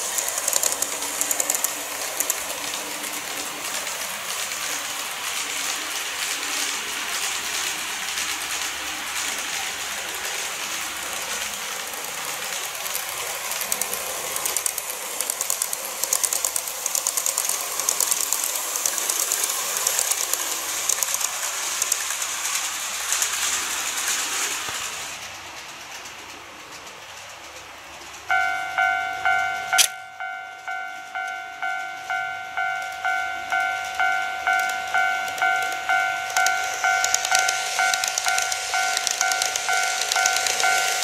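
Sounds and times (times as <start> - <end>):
model train motor hum: 0.0 - 29.9, 30.7 - 41.0
wheels clicking over rail joints: 0.0 - 41.0.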